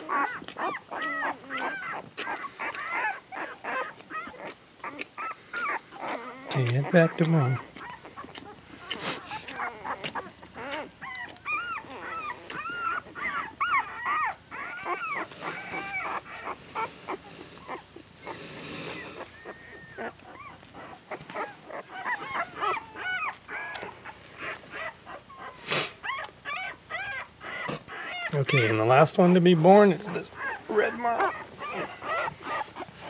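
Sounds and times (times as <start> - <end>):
newborn puppies squealing: 0.0 - 33.0.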